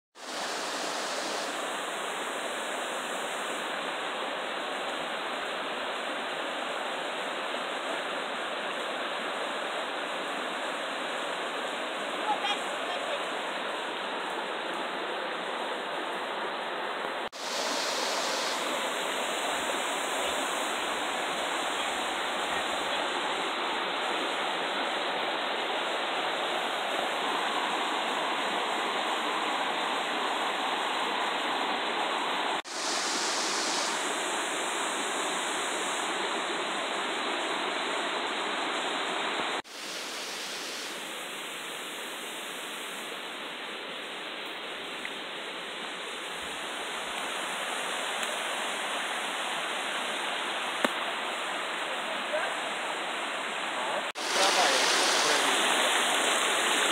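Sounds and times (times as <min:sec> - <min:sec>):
water flowing in rocky stream: 0:00.2 - 0:56.9.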